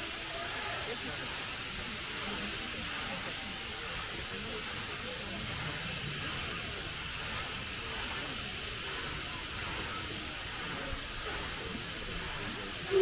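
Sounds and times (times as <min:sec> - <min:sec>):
steam hissing from locomotives: 0:00.0 - 0:13.0.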